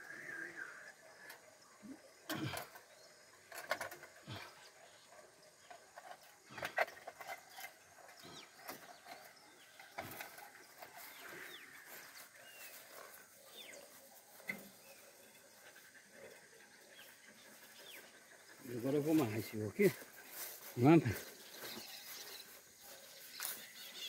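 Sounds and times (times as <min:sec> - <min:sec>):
faint bird calls: 0:00.0 - 0:24.0.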